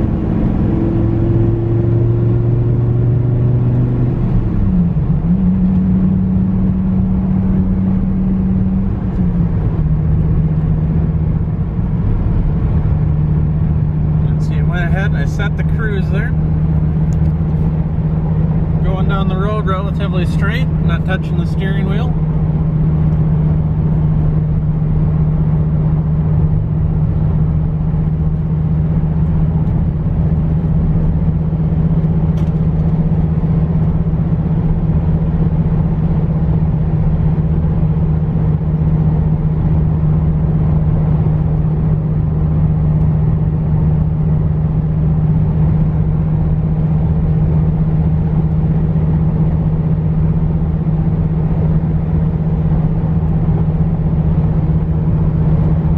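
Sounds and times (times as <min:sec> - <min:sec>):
car engine drone: 0:00.0 - 0:55.9
road noise: 0:00.0 - 0:55.9.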